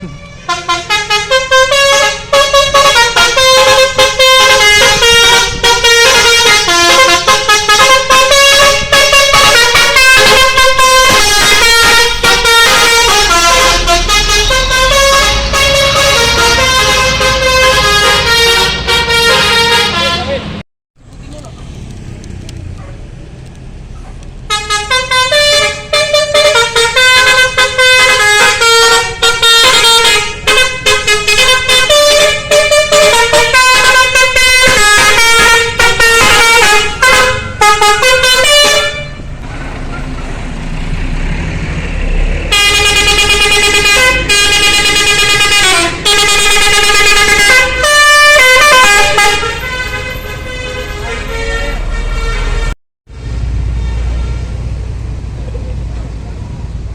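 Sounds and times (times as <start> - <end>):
bus horn playing a tune: 0.0 - 20.6, 24.5 - 40.2, 42.5 - 52.8, 53.8 - 54.6.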